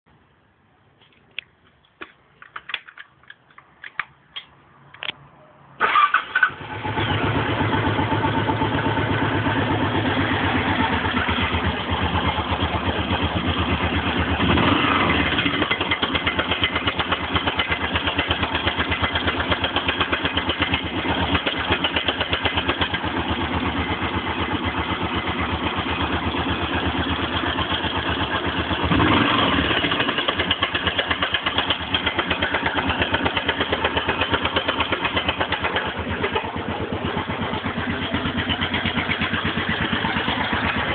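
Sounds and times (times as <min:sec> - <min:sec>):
motorcycle engine idling: 0:05.9 - 0:40.9
engine knocking: 0:07.2 - 0:40.9.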